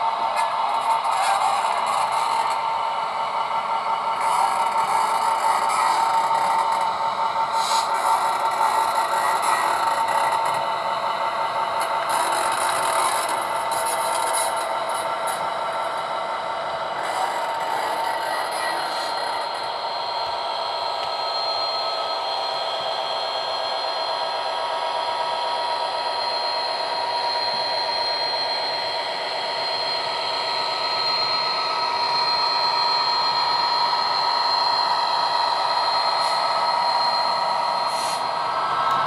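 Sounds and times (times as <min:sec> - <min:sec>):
model diesel engine drone with whine: 0:00.0 - 0:39.0
model wheels running on track: 0:00.0 - 0:39.0.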